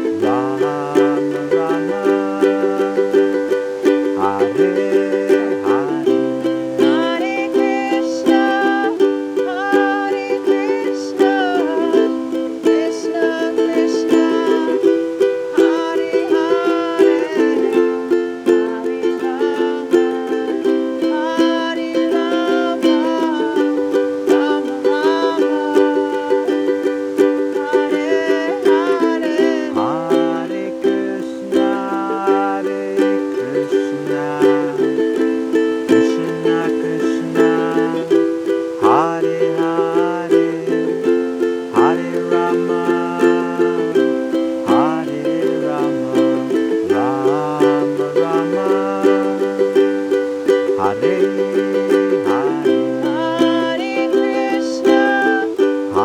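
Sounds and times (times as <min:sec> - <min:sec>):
ukulele strumming chords: 0:00.0 - 0:56.0.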